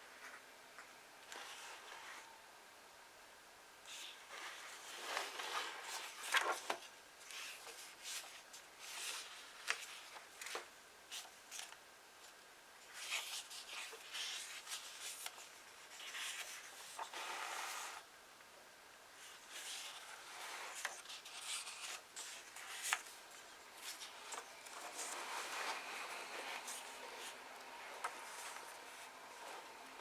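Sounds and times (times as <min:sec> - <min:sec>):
book pages rustling and turning: 0:00.0 - 0:02.3, 0:03.9 - 0:18.0, 0:19.2 - 0:30.0.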